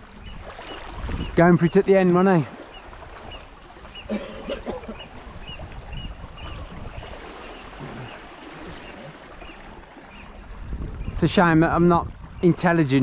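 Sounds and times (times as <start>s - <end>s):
sea water washing on shore: 0.0s - 13.0s.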